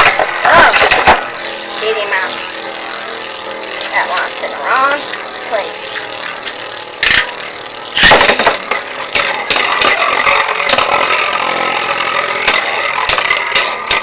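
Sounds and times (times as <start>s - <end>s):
spinning tops clicking together: 0.0s - 14.0s
spinning tops whirring: 0.0s - 14.0s.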